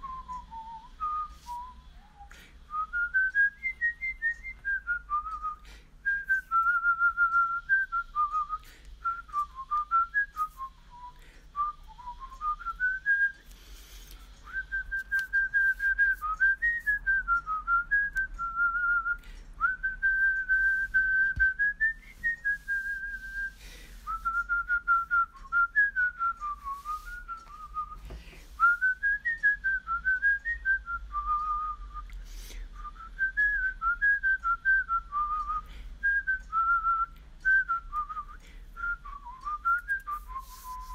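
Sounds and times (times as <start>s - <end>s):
person whistling a melody: 0.0s - 40.9s.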